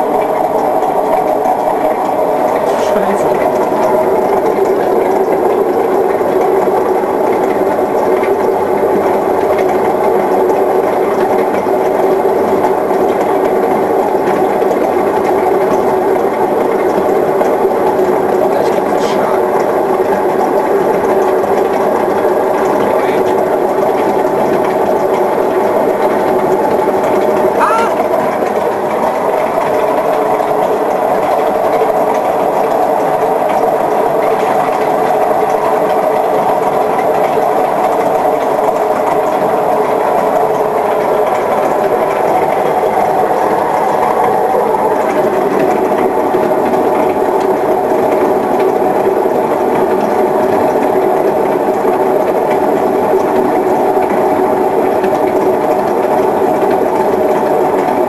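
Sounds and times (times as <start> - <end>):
washing machine droning: 0.0 - 58.0.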